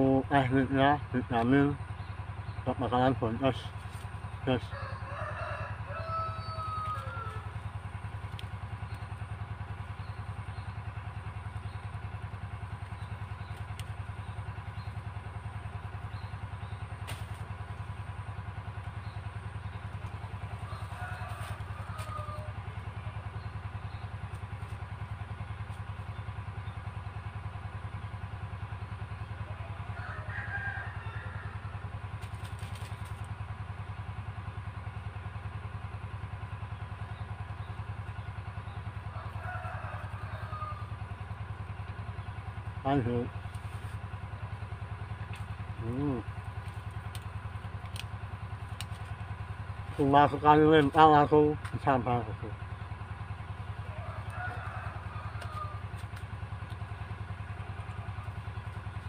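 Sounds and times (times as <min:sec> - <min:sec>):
diesel water pump engine throbbing: 0:00.0 - 0:59.0.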